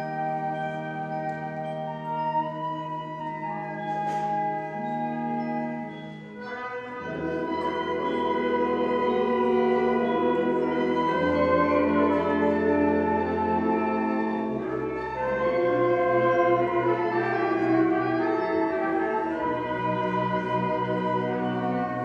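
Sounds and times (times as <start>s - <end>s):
symphonic band playing chords: 0.0s - 22.0s.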